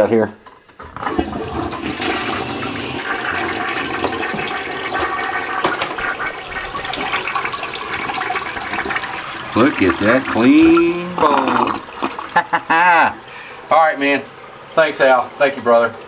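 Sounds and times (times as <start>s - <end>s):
toilet flushing: 0.0s - 16.0s.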